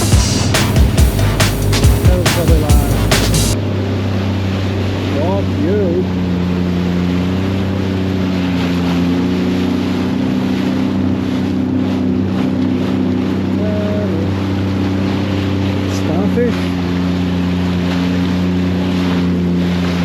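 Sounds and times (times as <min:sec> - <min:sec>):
jet ski engine running: 0:00.0 - 0:20.0
water noise: 0:00.0 - 0:20.0.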